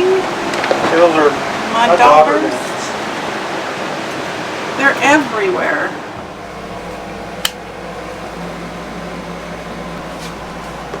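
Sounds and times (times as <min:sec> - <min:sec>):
air conditioning fan hum: 0:00.0 - 0:11.0.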